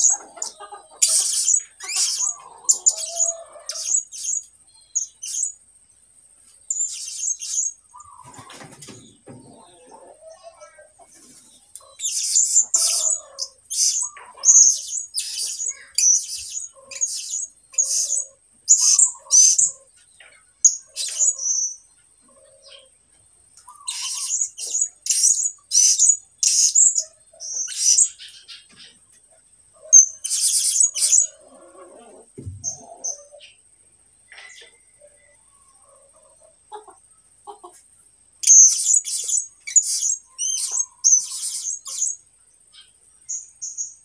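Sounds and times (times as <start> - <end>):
songbird chirping: 0.0 - 44.0.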